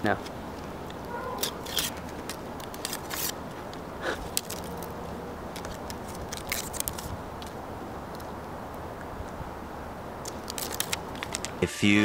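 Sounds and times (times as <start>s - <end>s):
grip tape crackling and rustling: 0.1s - 9.4s, 10.2s - 11.6s.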